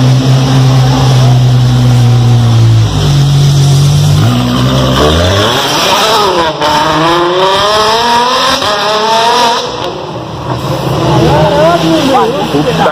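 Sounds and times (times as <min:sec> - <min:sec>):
sports car engine accelerating: 0:00.0 - 0:12.9.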